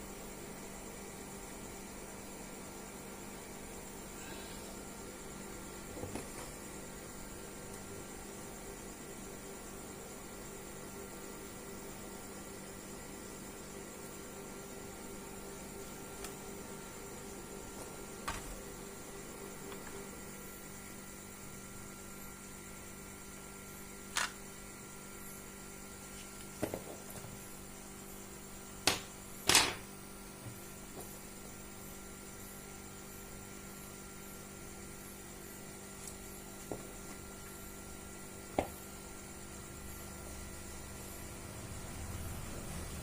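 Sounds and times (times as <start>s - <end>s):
steady electrical hum: 0.0s - 43.0s.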